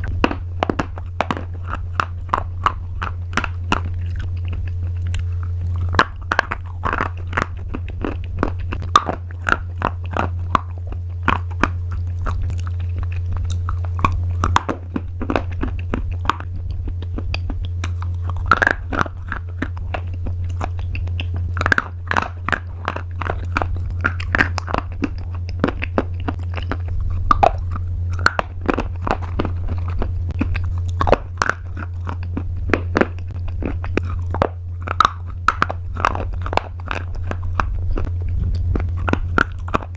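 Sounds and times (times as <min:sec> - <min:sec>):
crunchy pasta being chewed: 0:00.0 - 0:39.9
steady low hum: 0:00.0 - 0:39.9.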